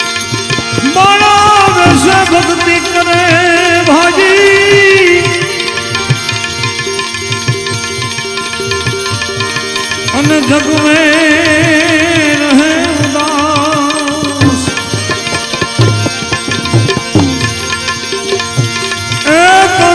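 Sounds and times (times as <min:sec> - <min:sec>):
devotional melody: 0:00.0 - 0:19.9
tabla beat: 0:00.0 - 0:19.9.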